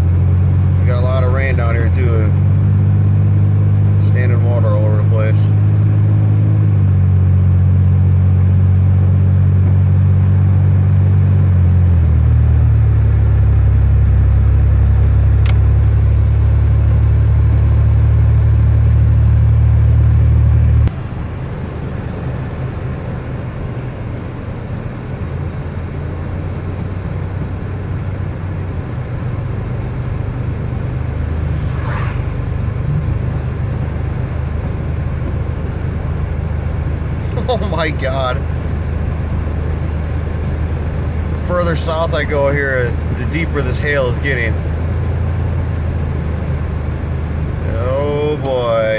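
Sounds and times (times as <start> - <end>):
car interior drone: 0.0 - 48.9
road hum: 0.0 - 48.9.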